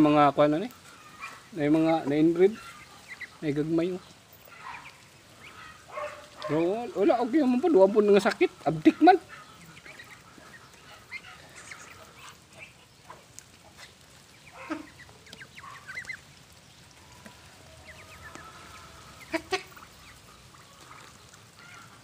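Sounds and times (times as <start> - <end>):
ducks calling softly: 0.0 - 22.0.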